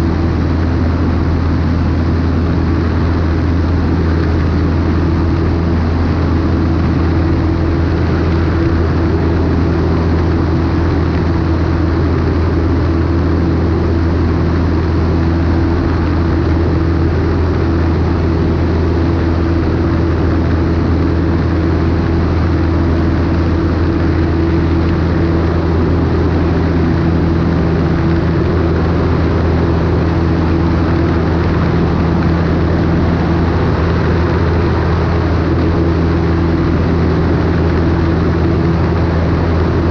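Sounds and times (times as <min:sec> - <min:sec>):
airplane engine and propeller drone: 0:00.0 - 0:39.9
wind rushing over microphone: 0:00.0 - 0:39.9.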